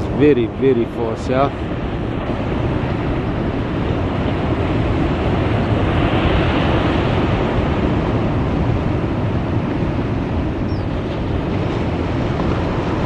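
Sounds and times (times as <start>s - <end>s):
ocean surf breaking: 0.0s - 13.0s
wind buffeting microphone: 0.0s - 13.0s
wind roaring: 0.0s - 13.0s.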